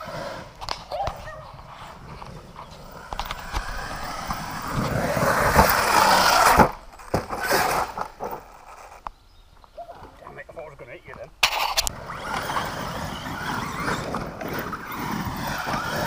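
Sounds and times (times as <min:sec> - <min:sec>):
toy truck motor and tyres on dirt: 0:00.0 - 0:16.0.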